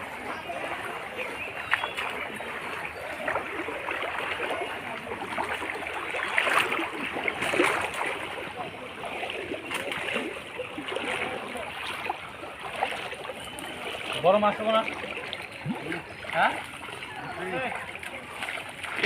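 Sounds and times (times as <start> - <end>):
floodwater flowing: 0.0 - 19.0
loud water splashes: 0.0 - 19.0.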